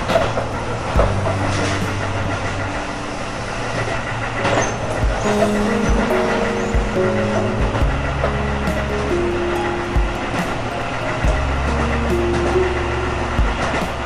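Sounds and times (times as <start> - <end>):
background music of low notes: 0.0 - 14.0
train rumble: 0.0 - 14.0.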